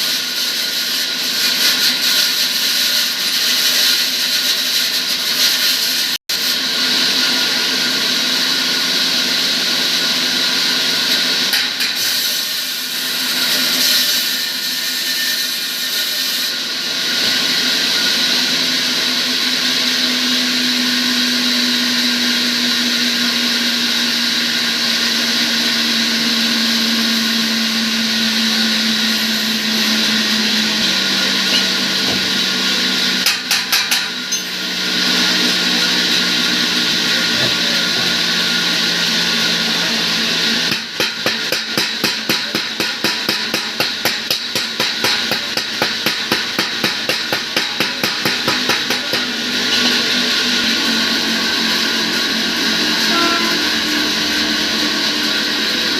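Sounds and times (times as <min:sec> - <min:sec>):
power tool motor humming: 0:00.2 - 0:55.9.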